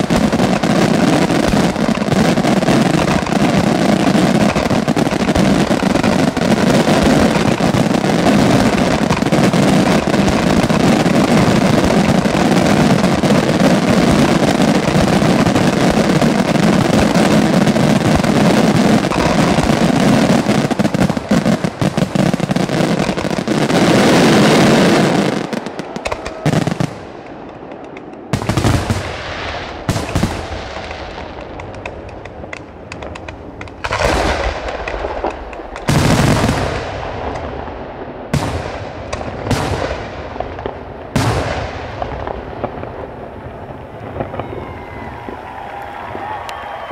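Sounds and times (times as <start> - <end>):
fireworks crackling and rumbling: 0.0 - 46.9
separate firework bangs: 0.0 - 46.9.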